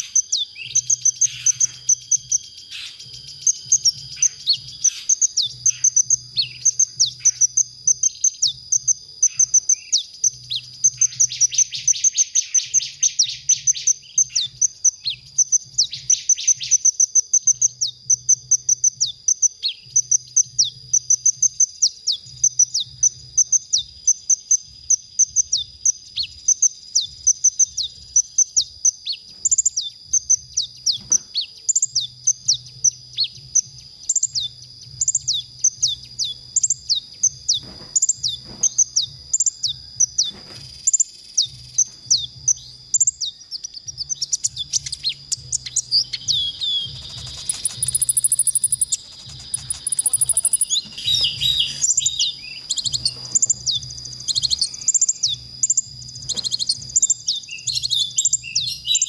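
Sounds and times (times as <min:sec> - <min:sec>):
bird singing high chirps: 0:00.0 - 0:59.0
buzzy bird trill: 0:00.0 - 0:59.0.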